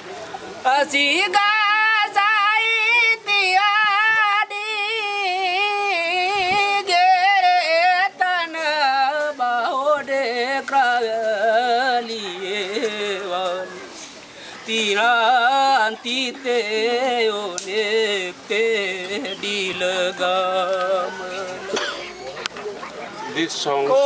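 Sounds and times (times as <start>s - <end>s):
man singing unaccompanied: 0.6s - 13.9s, 14.6s - 21.9s.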